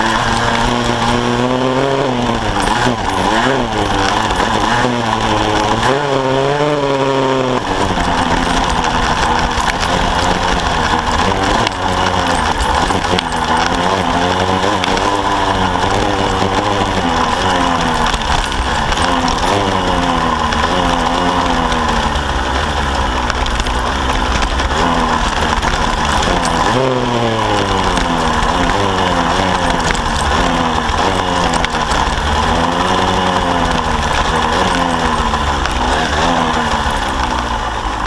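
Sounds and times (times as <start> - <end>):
two-stroke motorcycle engine revving: 0.0 - 38.0.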